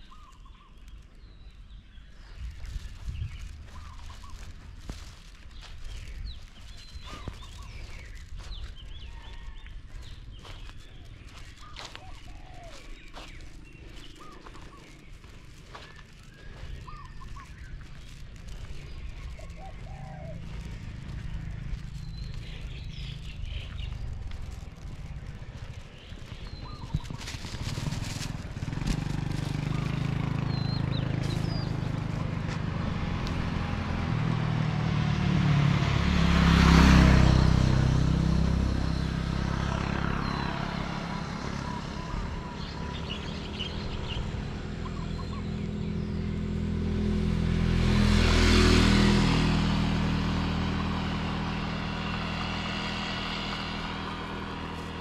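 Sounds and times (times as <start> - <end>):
vehicle engine running: 2.2 - 55.0
vehicle passing close by: 2.3 - 55.0.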